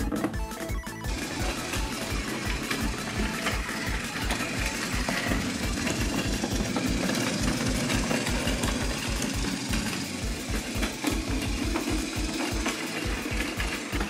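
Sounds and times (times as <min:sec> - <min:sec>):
toy train motor whirring: 0:00.5 - 0:14.0.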